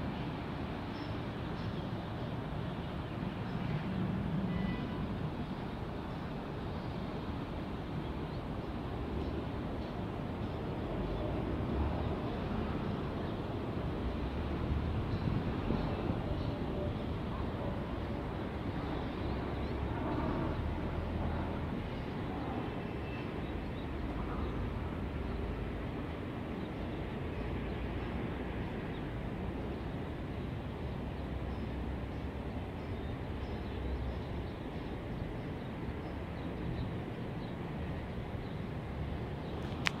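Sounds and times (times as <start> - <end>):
distant city traffic hum: 0.0 - 40.0.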